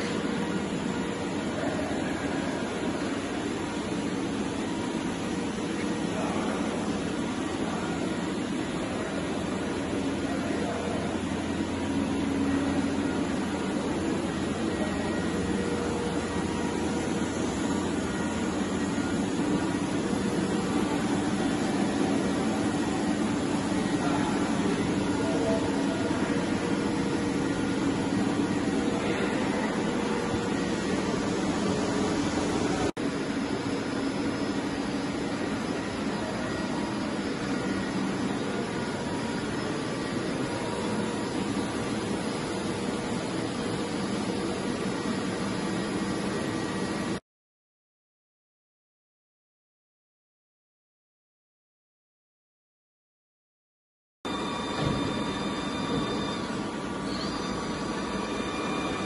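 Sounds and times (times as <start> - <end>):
machinery and ventilation hum: 0.0 - 47.2, 54.3 - 59.0.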